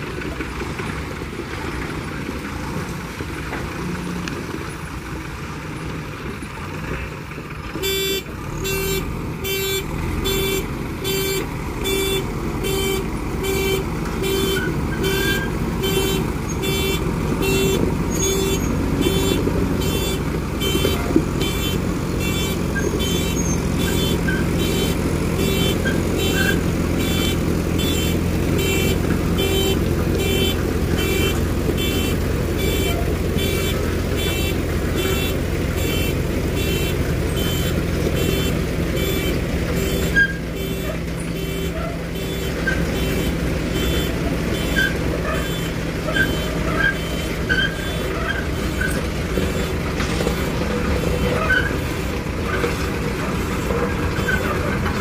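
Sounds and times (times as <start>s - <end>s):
diesel engine under load: 0.0s - 55.0s
reversing alarm beeping: 7.8s - 55.0s.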